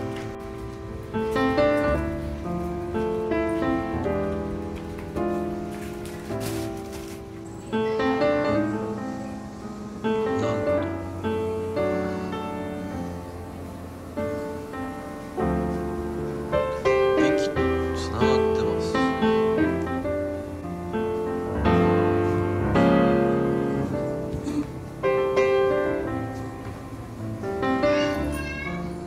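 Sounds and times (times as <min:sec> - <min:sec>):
piano background music: 0:00.0 - 0:29.0.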